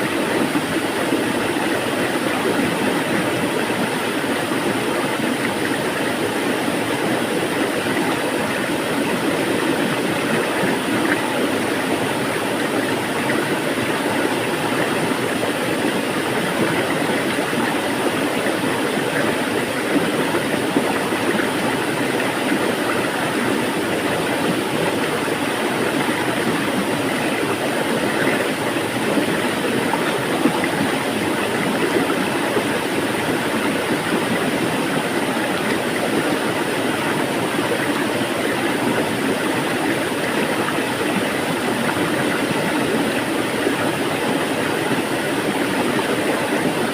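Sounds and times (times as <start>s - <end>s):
water rushing: 0.0s - 46.9s.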